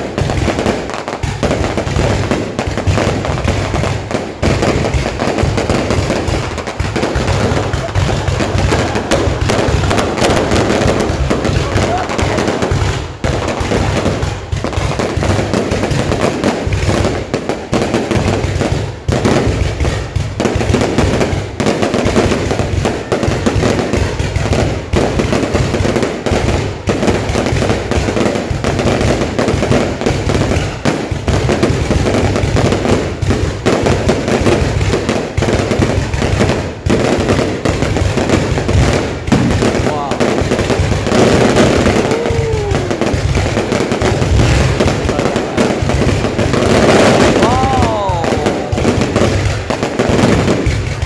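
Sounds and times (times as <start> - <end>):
fireworks bursting and banging: 0.0 - 51.0.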